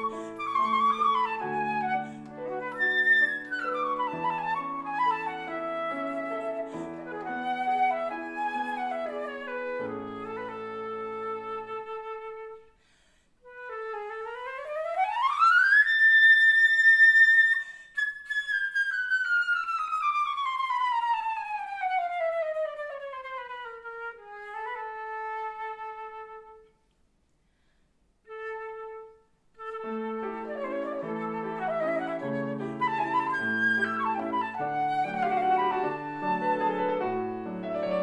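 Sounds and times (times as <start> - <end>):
flute playing: 0.0 - 12.8, 13.4 - 26.8, 28.3 - 38.0.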